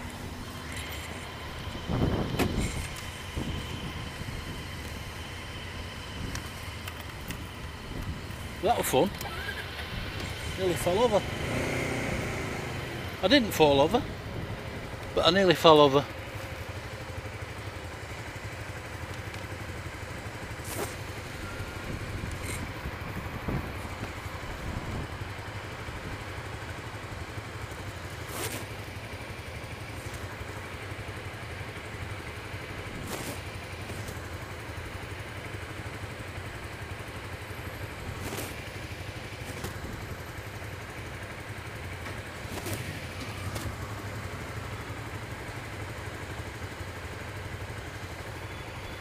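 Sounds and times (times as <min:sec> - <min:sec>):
scooter engine idling: 0:00.0 - 0:49.0.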